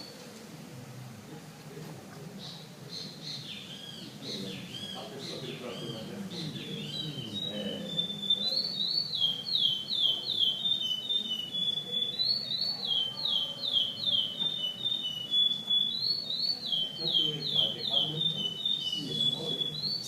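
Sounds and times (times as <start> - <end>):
finch singing whistled song: 3.0 - 20.0.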